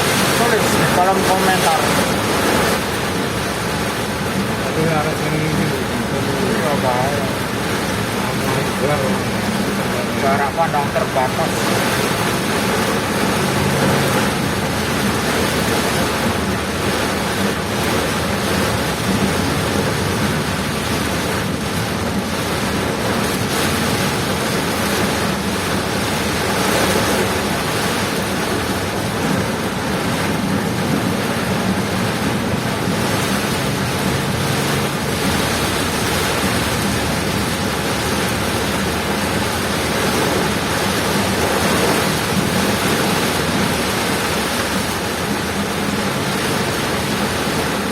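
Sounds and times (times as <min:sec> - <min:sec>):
heavy rain and wind on vehicle: 0:00.0 - 0:47.9.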